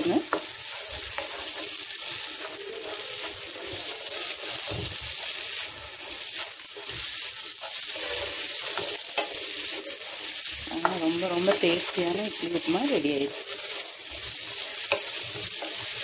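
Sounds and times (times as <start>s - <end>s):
food sizzling: 0.0s - 16.0s
spatula scraping a pan: 0.0s - 16.0s.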